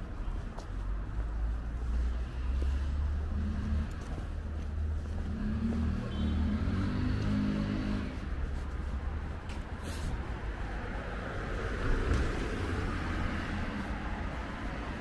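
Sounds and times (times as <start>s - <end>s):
vehicle engines passing: 0.0s - 15.0s.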